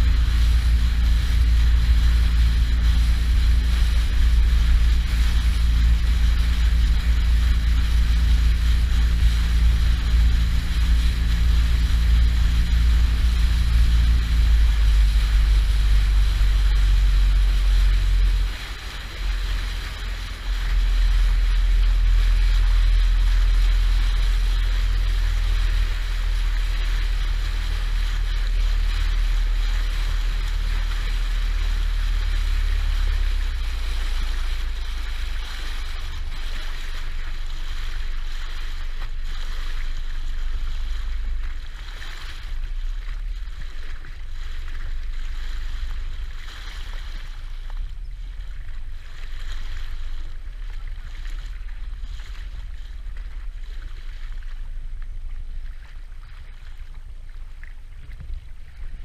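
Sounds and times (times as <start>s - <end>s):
boat engine rumble: 0.0s - 59.0s
water rushing past hull: 0.0s - 59.0s.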